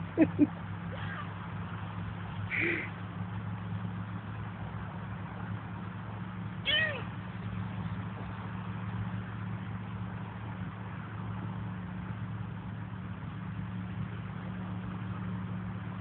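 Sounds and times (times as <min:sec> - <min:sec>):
idling engine hum: 0:00.0 - 0:16.0.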